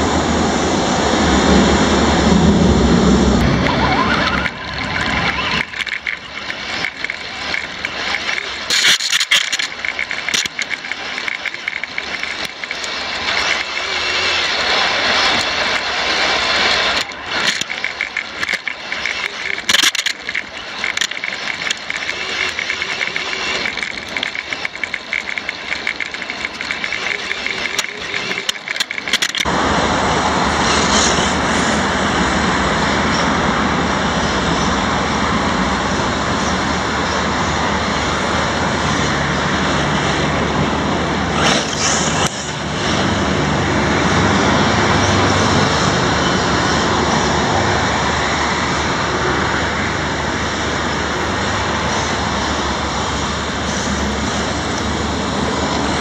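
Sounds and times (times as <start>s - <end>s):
loud rushing noise: 0.0s - 56.0s
low hum: 0.0s - 56.0s
rc buggy rattling over gravel: 3.0s - 29.7s, 30.6s - 56.0s.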